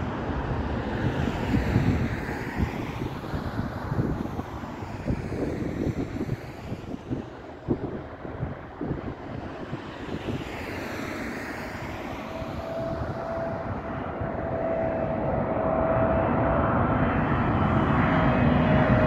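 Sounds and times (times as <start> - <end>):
engine whine: 0.0 - 19.0
jet engines rumbling: 0.0 - 19.0.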